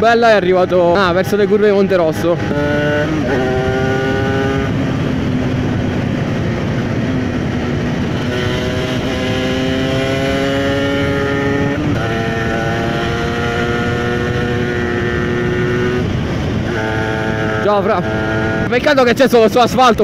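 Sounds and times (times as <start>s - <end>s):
motorcycle engine running: 0.0s - 20.0s
wind rushing on microphone: 0.0s - 20.0s.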